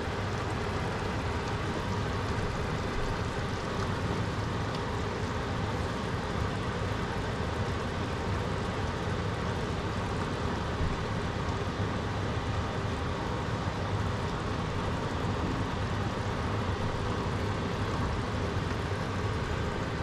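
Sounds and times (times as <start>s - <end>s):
gas stove hum and hiss: 0.0s - 20.0s.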